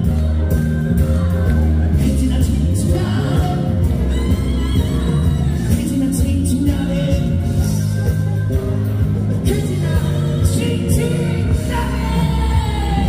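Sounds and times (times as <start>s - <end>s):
heavy bass line: 0.0s - 13.0s
live amplified fusion music: 0.0s - 13.0s
person singing: 0.0s - 13.0s.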